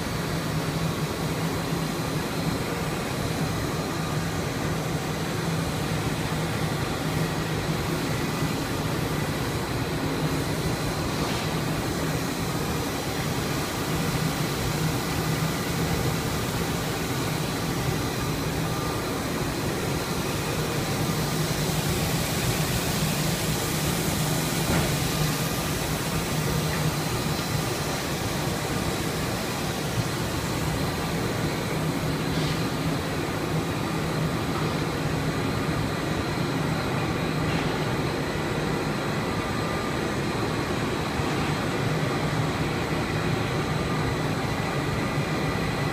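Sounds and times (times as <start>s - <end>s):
industrial machine drone: 0.0s - 45.9s.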